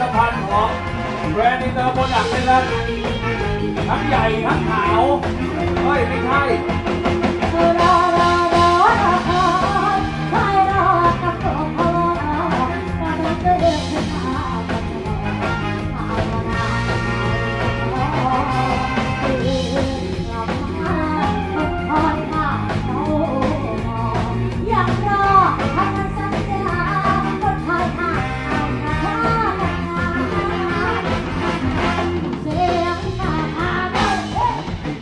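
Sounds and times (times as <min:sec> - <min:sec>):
band music with singing: 0:00.0 - 0:35.0
bass line: 0:00.0 - 0:35.0
steady drum beat: 0:00.0 - 0:35.0.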